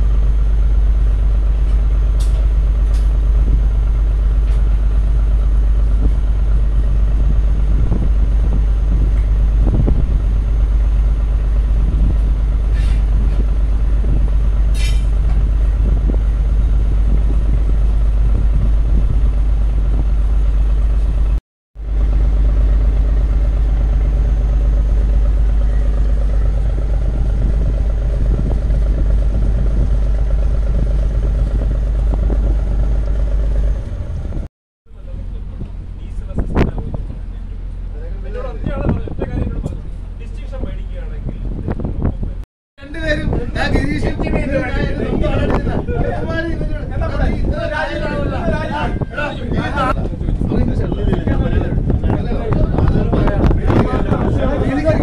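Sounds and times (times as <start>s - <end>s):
boat engine drone: 0.0s - 55.0s.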